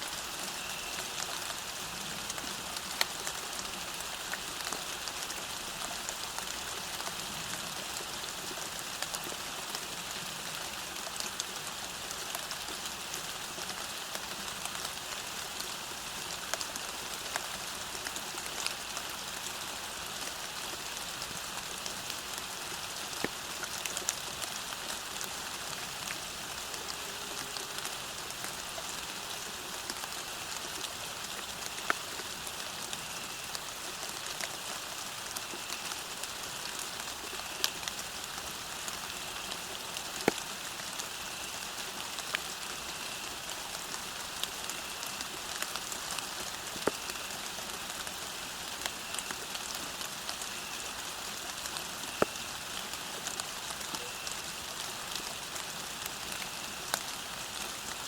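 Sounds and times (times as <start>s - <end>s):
sharp close raindrops: 0.0s - 58.0s
steady rain falling: 0.0s - 58.0s.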